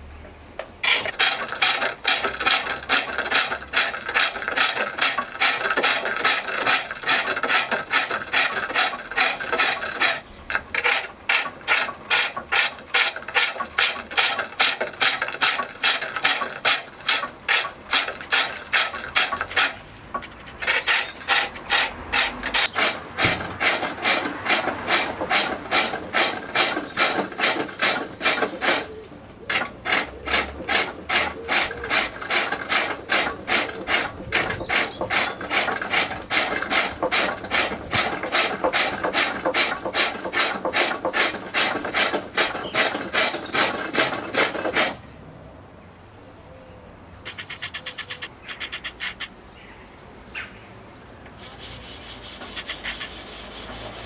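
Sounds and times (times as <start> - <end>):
lathe tool scraping wood: 0.8 - 45.0, 51.4 - 54.0.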